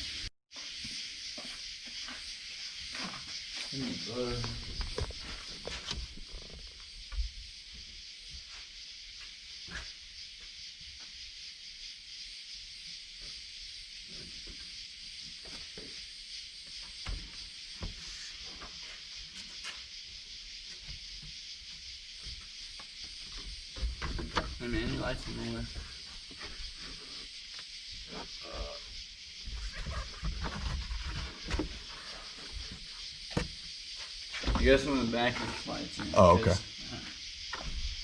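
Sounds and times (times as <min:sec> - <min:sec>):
steady high hiss: 0:00.0 - 0:38.0.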